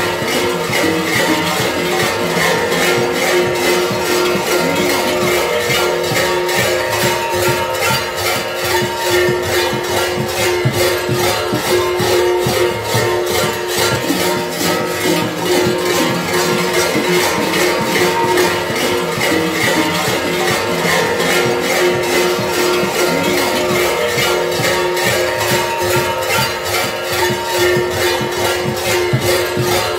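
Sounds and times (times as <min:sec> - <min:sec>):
large metal bells clanging: 0:00.0 - 0:29.9.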